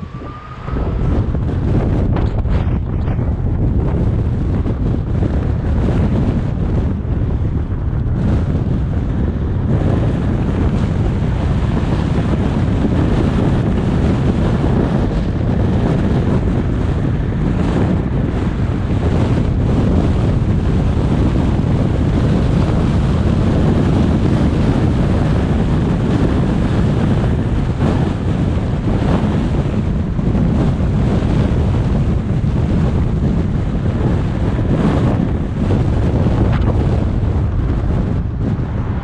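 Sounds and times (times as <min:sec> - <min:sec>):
car road and tyre noise: 0:00.0 - 0:39.0
wind buffeting microphone: 0:00.0 - 0:39.0.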